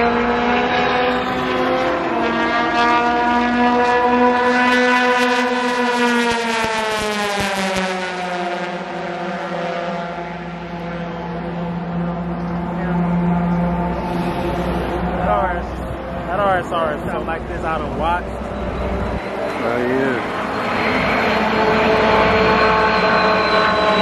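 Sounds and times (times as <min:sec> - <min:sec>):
race car engine passing by: 0:00.0 - 0:24.0.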